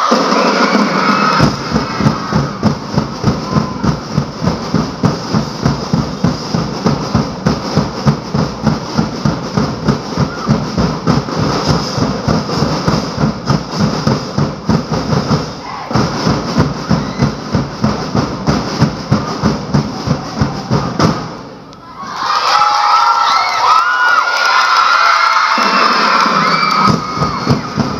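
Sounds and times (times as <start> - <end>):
drums beating fast rhythm: 0.0 - 21.7, 24.7 - 27.9.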